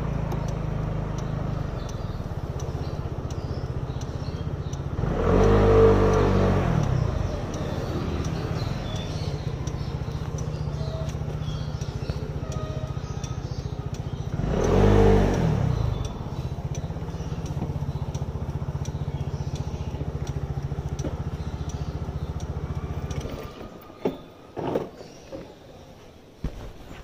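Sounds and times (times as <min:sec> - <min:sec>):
motor scooter engine running: 0:00.0 - 0:24.4.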